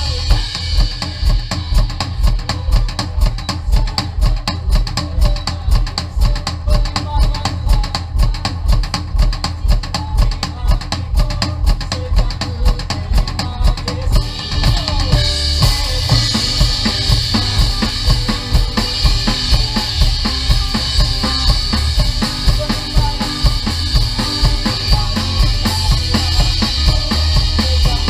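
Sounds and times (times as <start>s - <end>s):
drum kit beat: 0.0s - 28.0s
live band playing: 0.0s - 28.0s.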